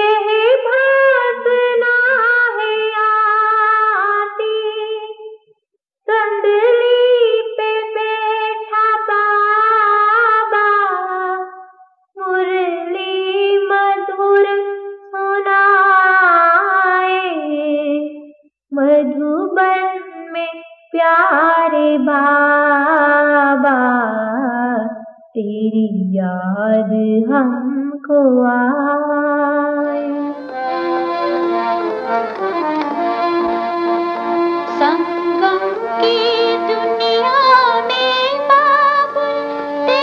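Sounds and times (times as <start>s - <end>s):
woman singing unaccompanied: 0.0s - 5.3s, 6.1s - 11.5s, 12.2s - 40.0s.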